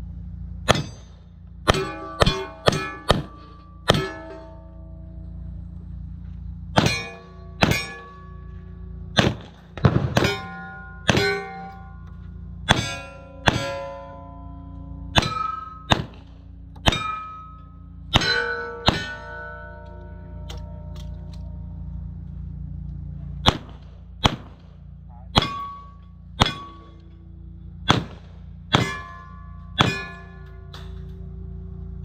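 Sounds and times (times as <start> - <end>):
steel targets clanging: 0.5 - 22.5, 23.3 - 32.0.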